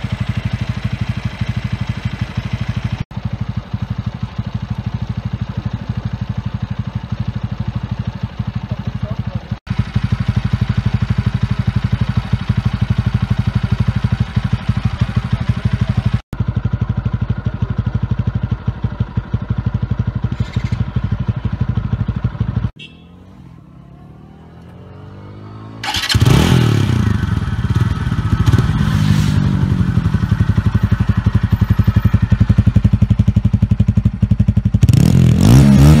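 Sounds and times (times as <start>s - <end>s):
motorcycle engine idling: 0.0s - 35.5s
motorcycle engine revving: 0.0s - 36.0s.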